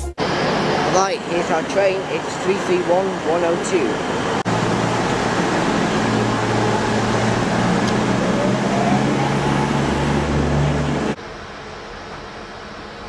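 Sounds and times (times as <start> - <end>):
train rushing noise: 0.1 - 13.0.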